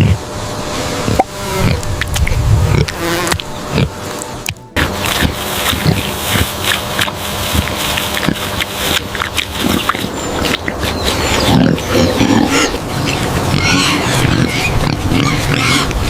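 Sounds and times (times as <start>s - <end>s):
pigs grunting and squealing: 0.0s - 16.0s.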